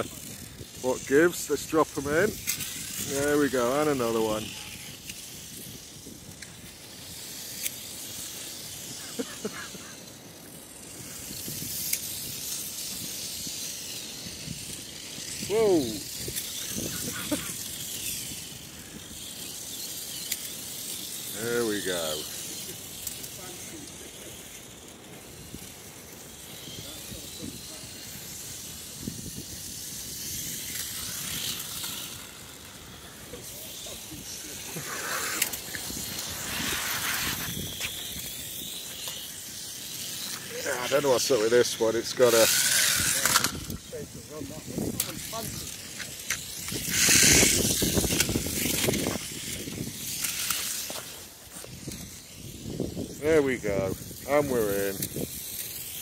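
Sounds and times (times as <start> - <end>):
toy car motors buzzing whirr: 0.0 - 56.0.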